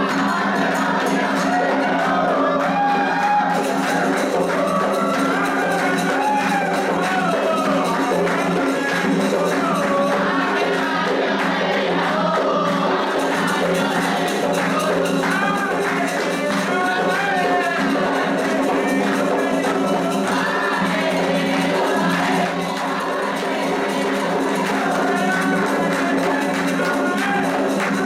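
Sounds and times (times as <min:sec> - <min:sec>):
group of voices singing: 0:00.0 - 0:28.0
hand drums and percussion: 0:00.0 - 0:28.0.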